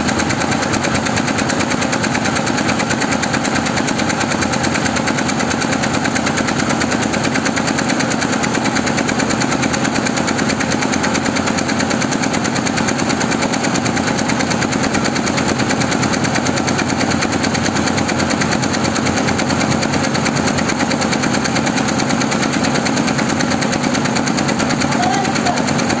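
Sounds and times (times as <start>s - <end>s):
embroidery machine needle clatter: 0.0s - 26.0s.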